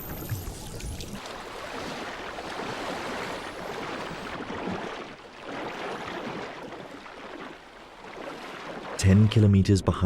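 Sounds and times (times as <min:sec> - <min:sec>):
churning bubbling water: 0:00.0 - 0:10.0.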